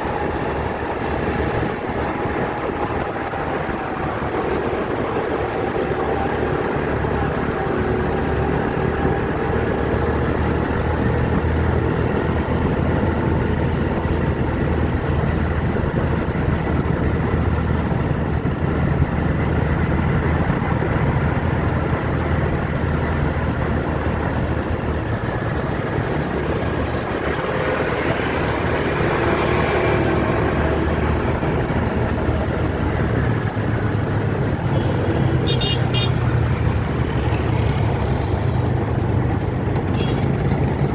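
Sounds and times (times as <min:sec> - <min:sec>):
road traffic engines rumbling: 0:00.0 - 0:40.9.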